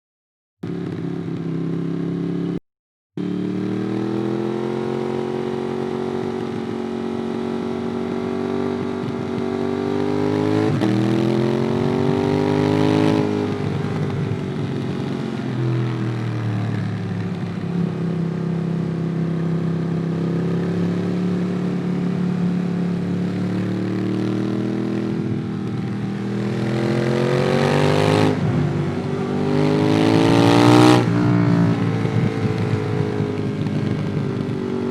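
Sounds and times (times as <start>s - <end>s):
motorcycle engine revving: 3.2s - 34.9s.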